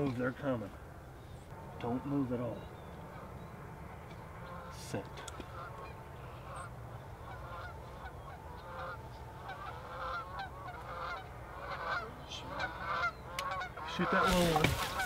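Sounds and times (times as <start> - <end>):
geese honking: 0.7 - 15.0.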